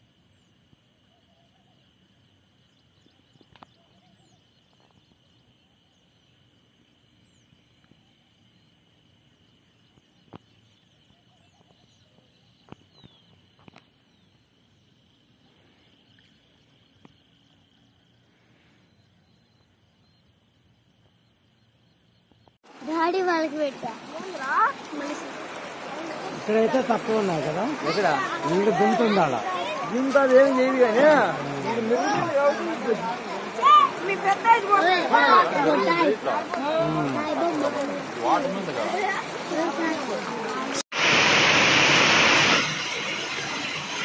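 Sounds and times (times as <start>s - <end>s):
faint chirps: 0.0s - 40.6s.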